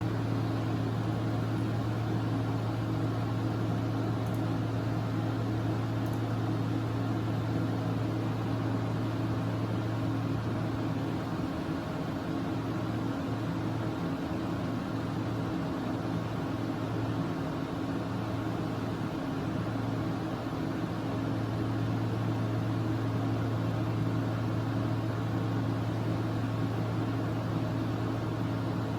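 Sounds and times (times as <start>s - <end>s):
scanner mechanical hum: 0.0s - 28.9s.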